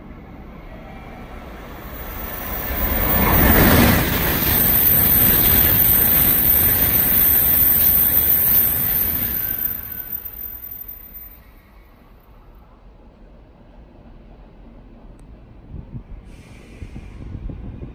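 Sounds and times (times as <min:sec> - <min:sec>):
high-speed train passing: 0:00.0 - 0:17.9.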